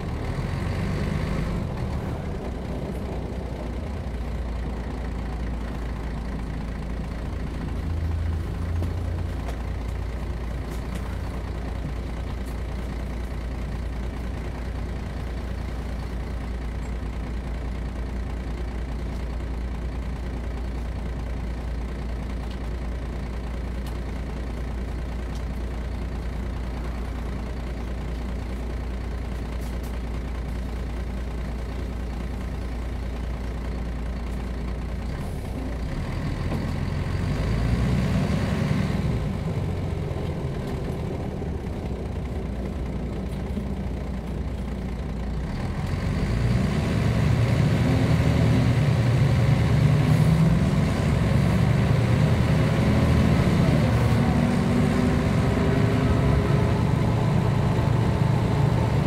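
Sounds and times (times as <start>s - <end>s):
bus diesel engine idling: 0.0s - 59.0s.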